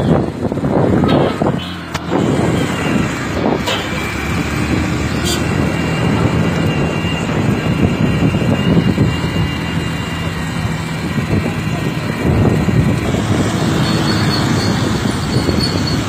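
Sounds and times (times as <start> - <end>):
motorcycle engine drone: 0.0 - 16.0
tyres on wet road: 0.0 - 16.0
wind rush on microphone: 0.0 - 16.0.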